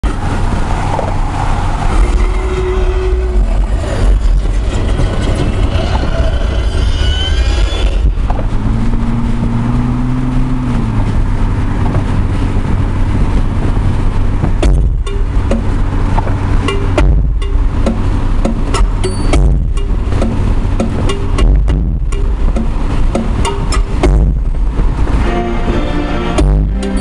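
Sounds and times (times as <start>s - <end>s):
engine drone: 0.0s - 27.0s
road and wind noise: 0.0s - 27.0s.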